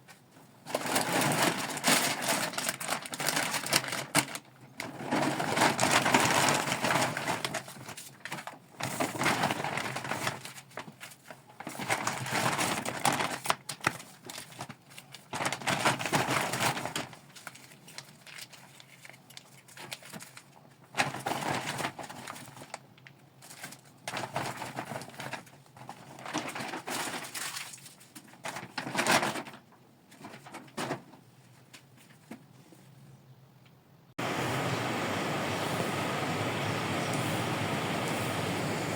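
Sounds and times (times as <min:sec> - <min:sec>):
plastic packaging rustling: 0:00.0 - 0:32.9.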